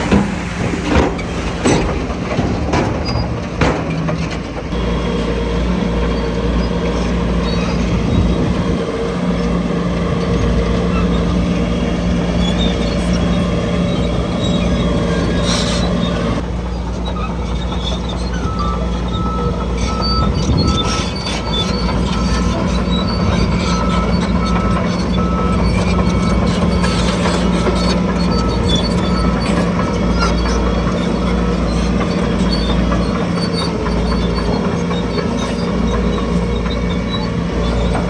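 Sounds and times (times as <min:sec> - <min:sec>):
heavy machinery diesel engine running: 0:00.0 - 0:38.0.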